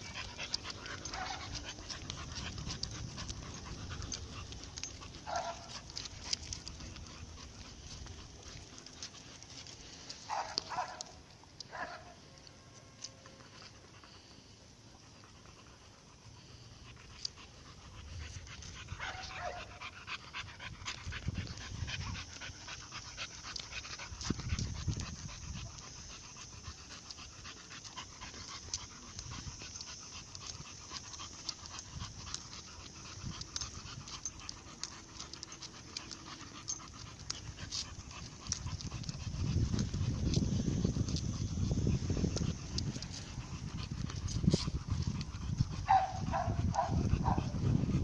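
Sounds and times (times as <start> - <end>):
dog panting: 0.0 - 48.0
dog paws clicking on road: 0.0 - 48.0.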